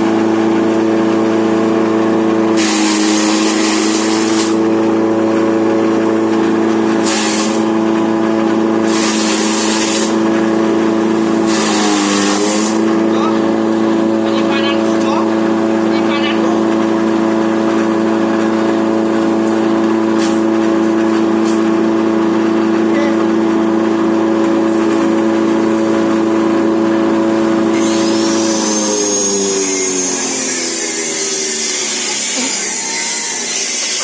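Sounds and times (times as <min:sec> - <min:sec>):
grass chopper engine running: 0:00.0 - 0:34.0.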